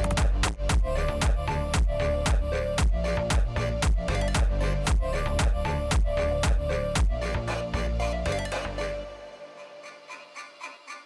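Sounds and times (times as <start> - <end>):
electronic music with steady beat: 0.0 - 10.8.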